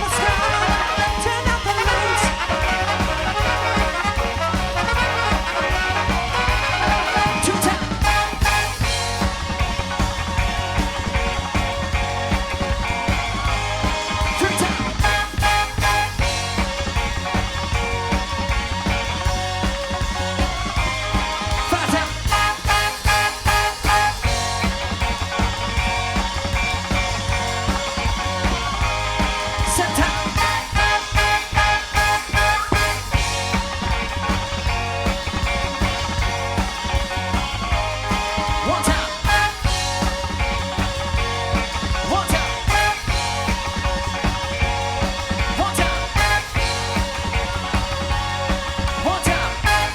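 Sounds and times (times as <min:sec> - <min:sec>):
drums and bass beat: 0:00.0 - 0:49.9
electric guitar: 0:00.0 - 0:49.9
loud accented band hits: 0:00.0 - 0:49.9
sustained chords: 0:00.0 - 0:49.9.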